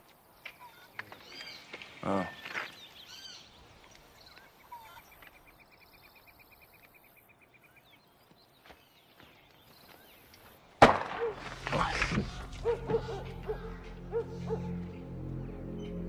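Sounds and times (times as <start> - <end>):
birds chirping: 0.0 - 10.8, 11.8 - 16.0.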